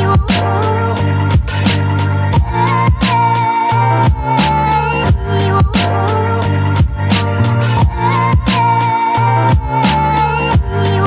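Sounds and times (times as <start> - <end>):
held melody line: 0.0 - 11.0
sustained bass notes: 0.0 - 11.0.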